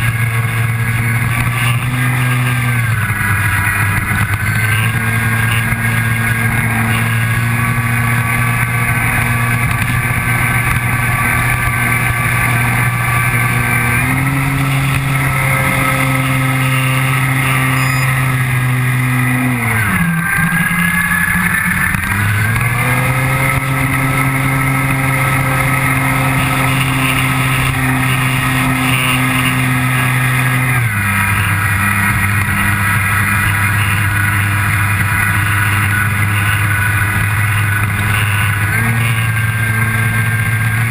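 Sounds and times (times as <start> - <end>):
model airplane motor and propeller: 0.0 - 40.9.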